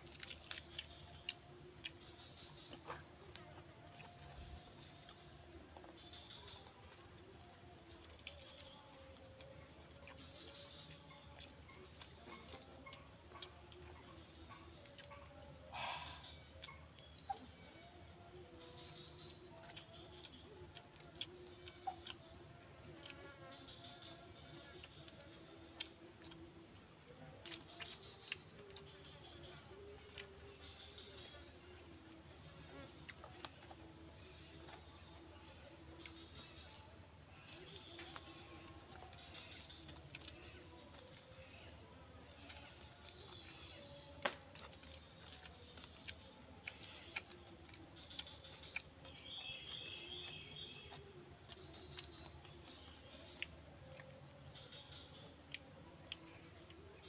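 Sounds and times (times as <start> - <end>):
insect chorus trilling: 0.0 - 57.0.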